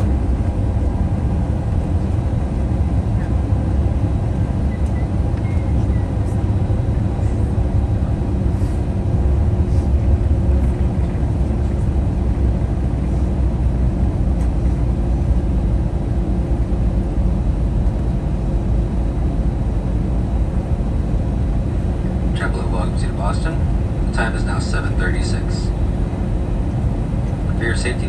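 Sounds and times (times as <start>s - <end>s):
jet cabin rumble on ground: 0.0s - 28.0s.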